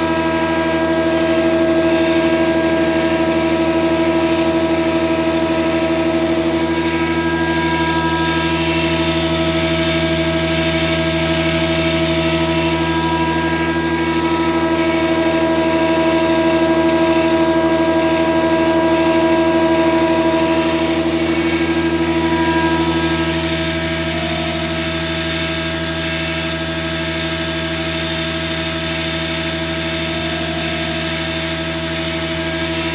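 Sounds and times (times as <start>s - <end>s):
machine motor humming and whining: 0.0s - 32.9s.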